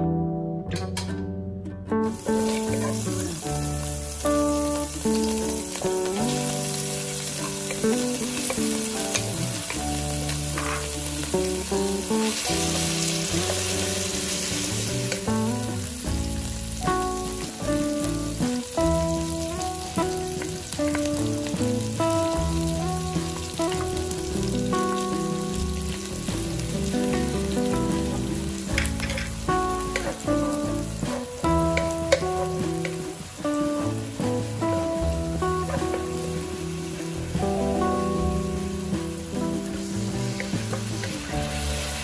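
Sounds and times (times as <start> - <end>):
background music: 0.0 - 42.0
food sizzling in hot oil: 2.0 - 42.0.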